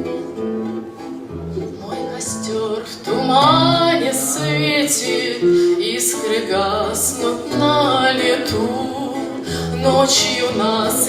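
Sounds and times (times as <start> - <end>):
acoustic guitar: 0.0 - 11.0
woman singing: 1.6 - 11.0.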